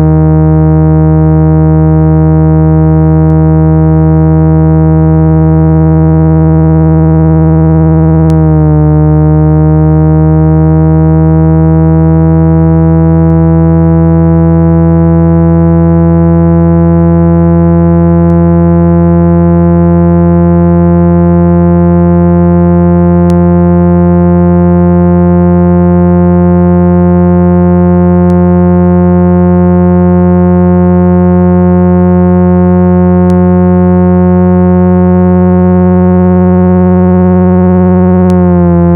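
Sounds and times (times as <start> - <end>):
synthesized low tones: 0.0 - 38.9.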